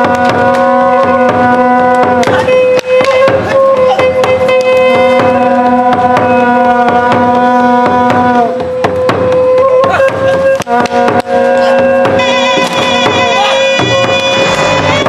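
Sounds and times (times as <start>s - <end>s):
quick drum strikes: 0.0s - 15.0s
wind instrument long notes: 0.0s - 15.0s.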